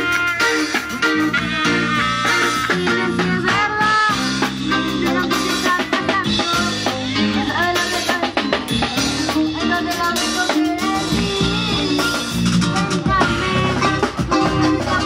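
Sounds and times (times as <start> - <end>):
live band playing dance music: 0.0 - 15.0.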